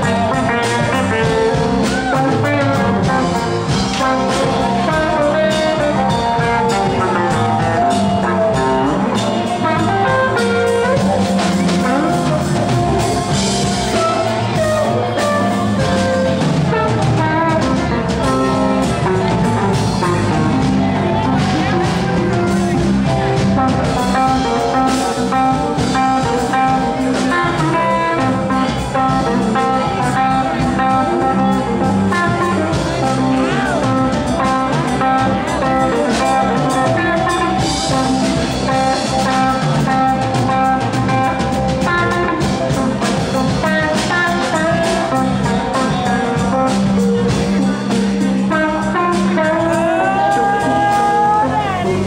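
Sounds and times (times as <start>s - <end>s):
bass guitar: 0.0s - 52.0s
drum kit steady beat: 0.0s - 52.0s
electric guitars: 0.0s - 52.0s.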